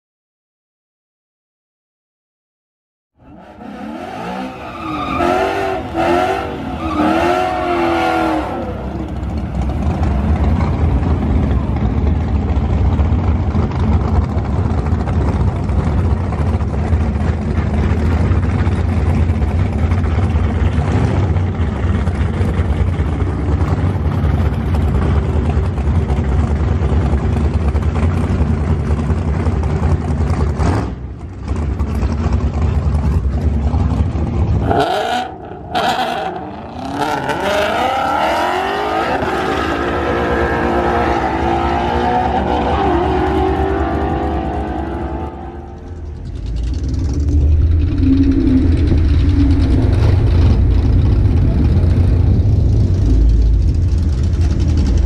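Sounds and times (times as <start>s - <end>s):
car engine rumbling loudly: 3.2s - 55.0s.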